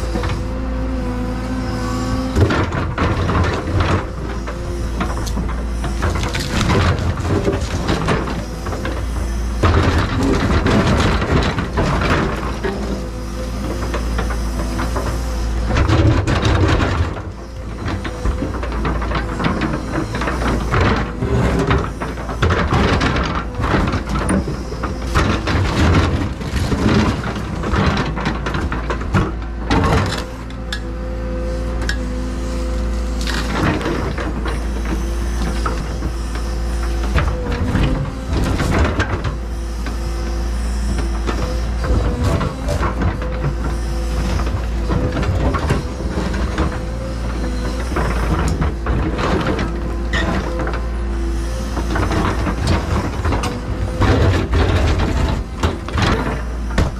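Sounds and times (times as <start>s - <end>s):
excavator running: 0.0s - 56.9s.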